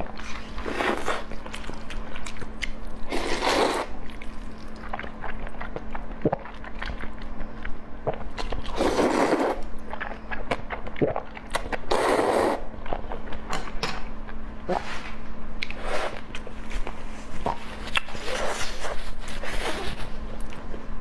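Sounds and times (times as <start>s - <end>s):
person chewing food: 0.2s - 12.1s, 15.6s - 20.8s.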